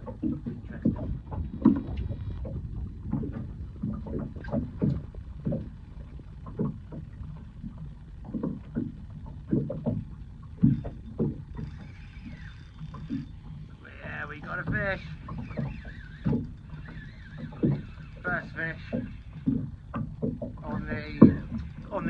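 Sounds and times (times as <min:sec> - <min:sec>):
steady low rumble: 0:00.0 - 0:22.0
waves slapping against boat hull: 0:00.0 - 0:22.0.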